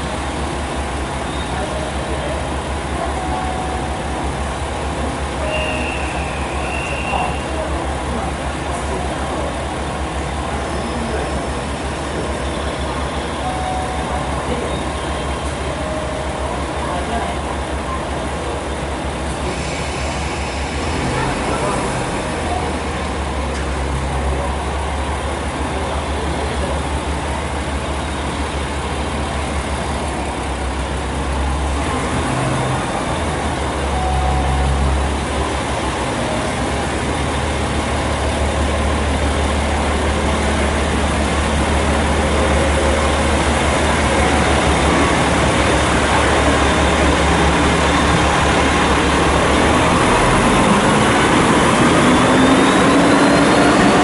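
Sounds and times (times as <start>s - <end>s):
diesel train engine passing: 0.0s - 54.0s.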